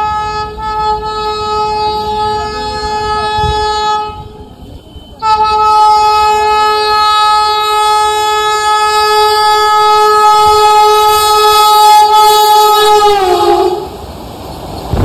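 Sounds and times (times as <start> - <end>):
train horn: 0.0 - 14.0.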